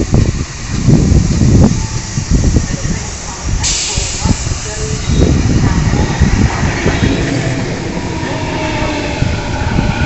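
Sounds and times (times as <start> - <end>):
train rumbling: 0.0 - 10.0
train whine: 0.0 - 10.0.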